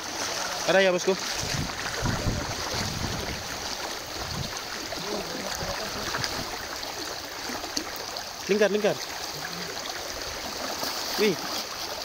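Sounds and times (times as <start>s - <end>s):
river water over stones: 0.0s - 12.0s
splashing of wading: 0.0s - 12.0s.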